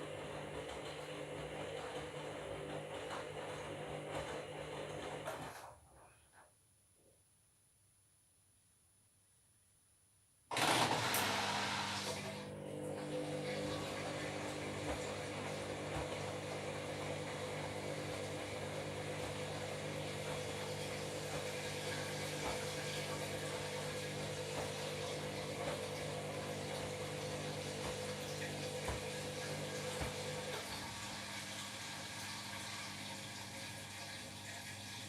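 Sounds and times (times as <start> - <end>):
washing machine humming: 0.0 - 5.9, 10.5 - 35.0.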